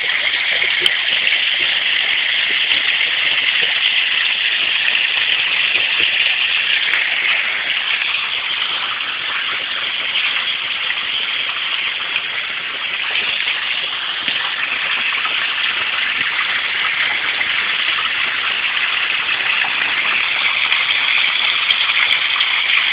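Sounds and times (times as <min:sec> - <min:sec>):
fountain water splashing: 0:00.0 - 0:22.9.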